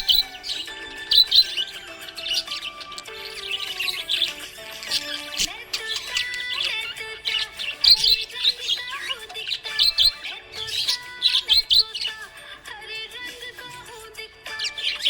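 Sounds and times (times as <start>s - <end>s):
budgerigar chirping and warbling: 0.0s - 12.4s, 14.5s - 15.0s
background music: 0.0s - 15.0s.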